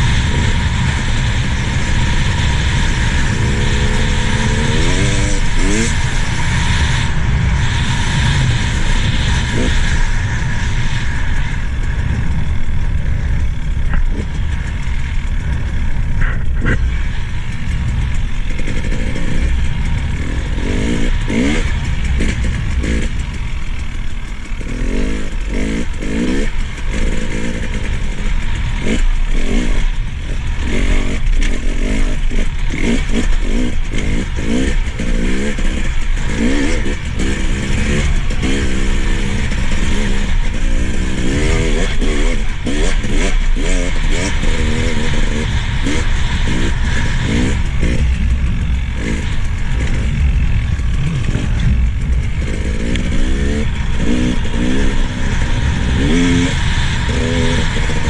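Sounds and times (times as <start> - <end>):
motorbike engine revving: 0.0 - 58.0
wind rush on microphone: 0.0 - 58.0.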